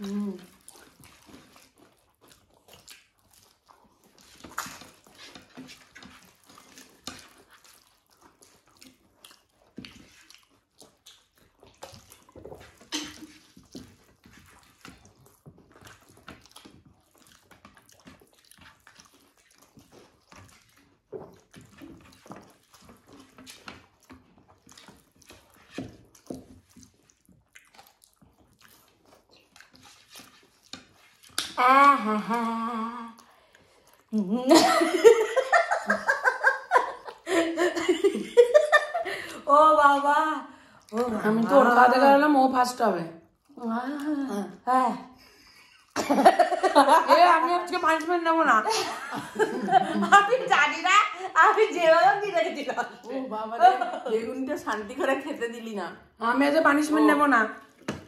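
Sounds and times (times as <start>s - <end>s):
wet chewing: 0.0s - 58.0s.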